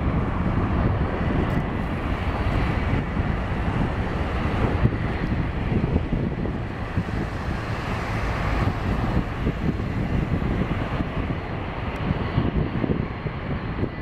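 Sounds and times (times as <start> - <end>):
jet airliner roar: 0.0 - 14.0.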